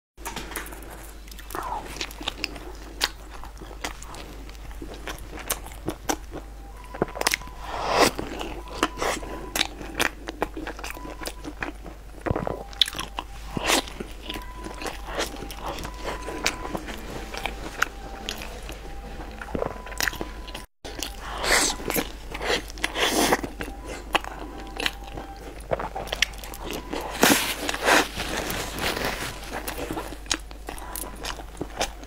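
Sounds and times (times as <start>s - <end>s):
biting and chewing bread: 0.2s - 32.0s.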